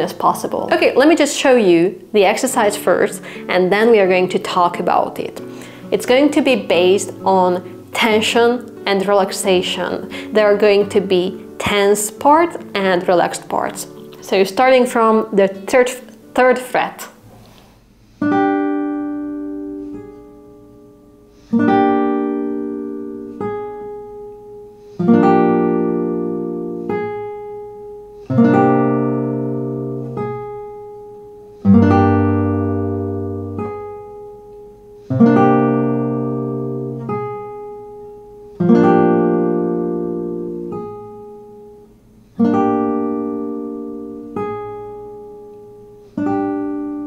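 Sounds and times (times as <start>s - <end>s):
classical guitar chords: 0.0s - 17.2s, 18.1s - 47.0s.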